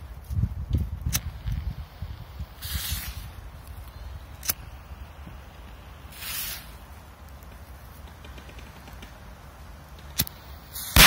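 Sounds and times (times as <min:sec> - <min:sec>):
fuse scratchy hiss: 0:00.0 - 0:11.0
firecracker crack: 0:00.9 - 0:11.0.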